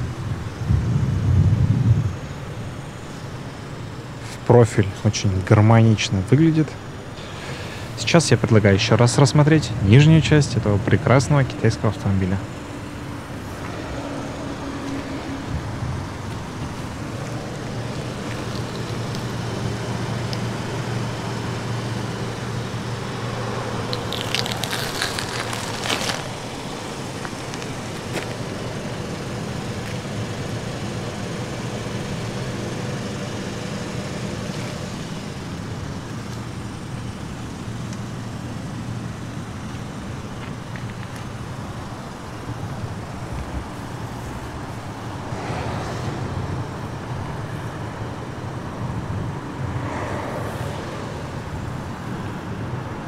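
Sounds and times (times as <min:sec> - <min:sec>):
road traffic hum: 0:00.0 - 0:53.0.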